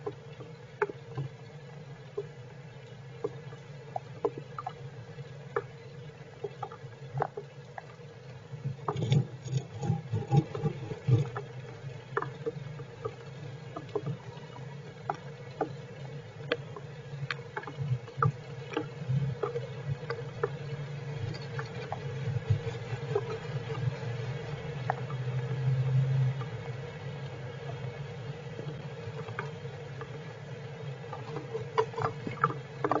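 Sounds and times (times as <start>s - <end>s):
rain drips and pattering: 0.0s - 33.0s
steady low hum: 0.0s - 33.0s.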